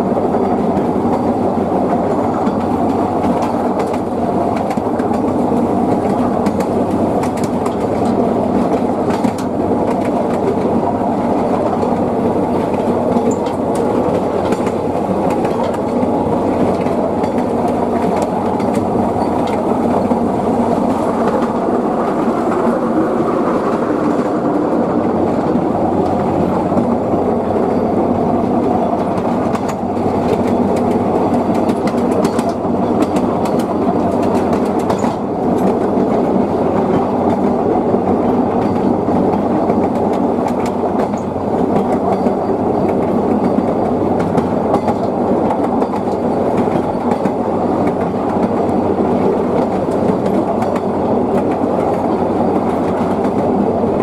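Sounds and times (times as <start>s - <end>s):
sharp clicks of train wheels: 0.0s - 54.0s
train wheels rumbling on rails: 0.0s - 54.0s.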